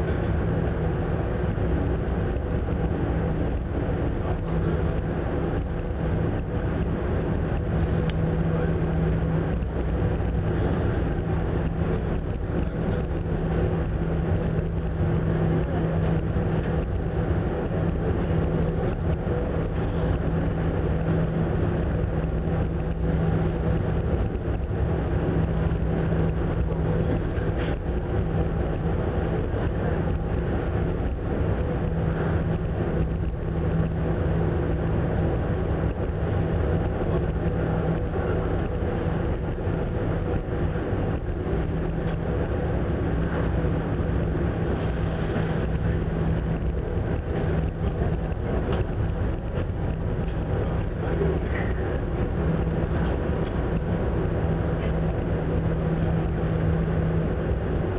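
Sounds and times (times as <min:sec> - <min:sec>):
ship engine drone: 0:00.0 - 0:57.9.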